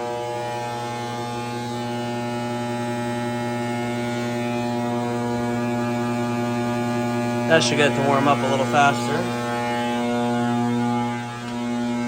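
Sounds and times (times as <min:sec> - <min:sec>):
lamp ballast humming: 0:00.0 - 0:12.0.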